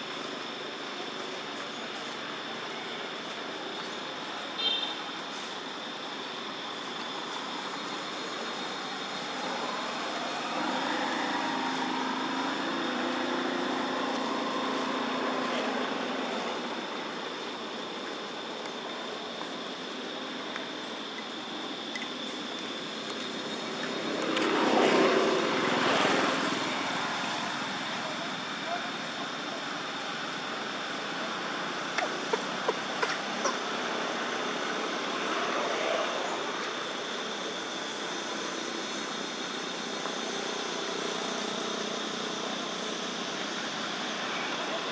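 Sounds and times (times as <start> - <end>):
distant traffic noise: 0.0 - 44.9
steady hiss with high hum: 0.0 - 44.9.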